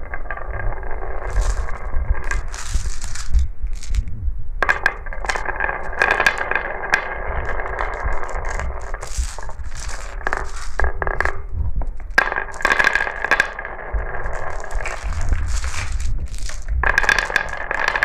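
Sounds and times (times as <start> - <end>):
marbles rolling and clattering: 0.0 - 18.0.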